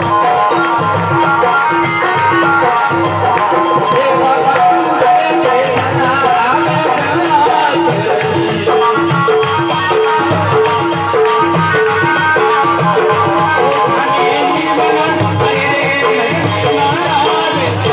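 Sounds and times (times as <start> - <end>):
jingling percussion: 0.0 - 17.9.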